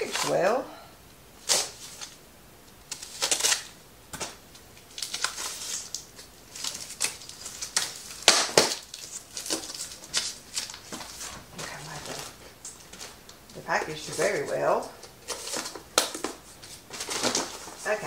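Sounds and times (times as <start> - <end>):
cardboard packaging rustling: 0.0 - 0.5, 1.4 - 2.2, 2.9 - 18.0.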